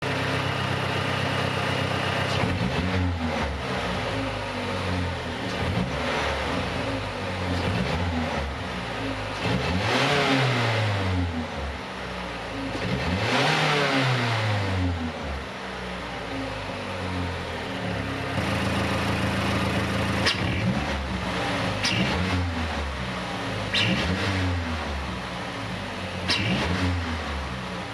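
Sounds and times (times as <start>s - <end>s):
car engine revving: 1.7s - 27.9s.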